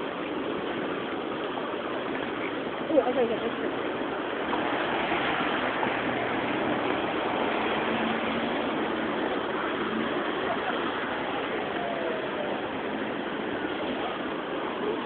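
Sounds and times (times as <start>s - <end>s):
floodwater rushing: 0.0s - 15.0s
traffic driving through water: 0.0s - 15.0s.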